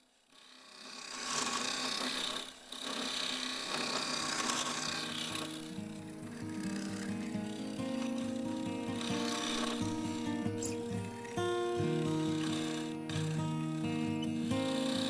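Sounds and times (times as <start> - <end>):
scraper cutting wood on lathe: 0.4 - 15.0.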